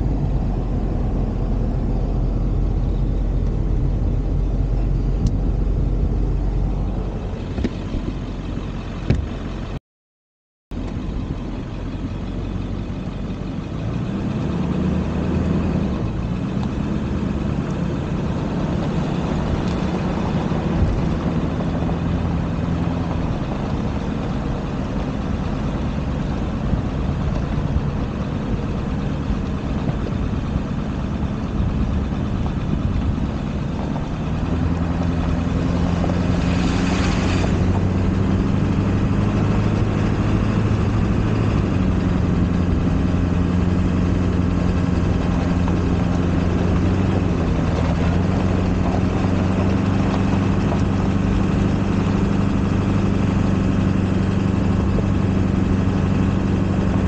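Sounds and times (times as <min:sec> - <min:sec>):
pickup truck engine running: 0:00.0 - 0:09.8, 0:10.7 - 0:57.0
road and wind noise: 0:00.0 - 0:09.8, 0:10.7 - 0:57.0.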